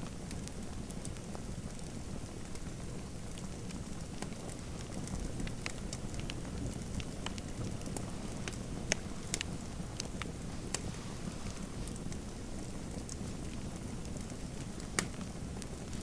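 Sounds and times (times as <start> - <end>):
fire low rumble: 0.0 - 16.0
fire pops and snaps: 0.0 - 16.0.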